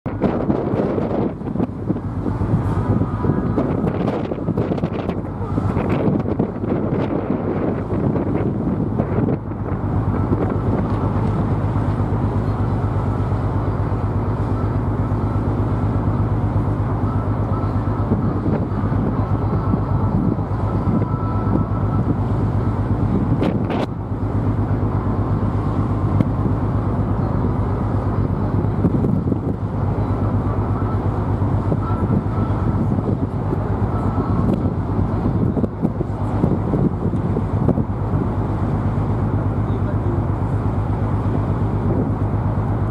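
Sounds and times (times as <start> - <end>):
ship diesel engines throbbing: 0.1 - 42.9.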